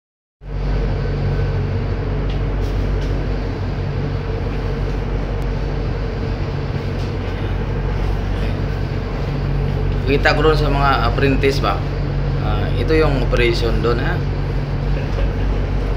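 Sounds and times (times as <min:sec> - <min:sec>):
ship engines droning: 0:00.4 - 0:15.9.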